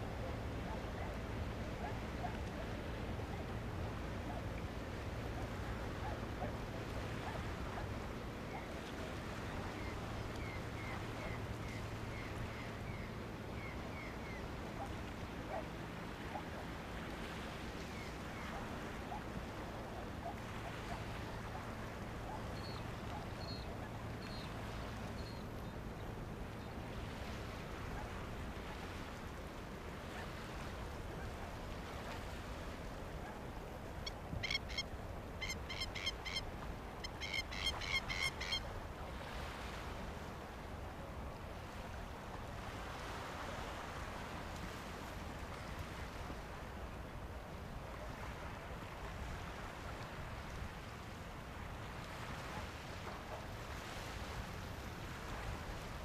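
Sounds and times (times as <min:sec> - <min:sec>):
water noise: 0:00.0 - 0:56.0
wind: 0:00.0 - 0:56.0.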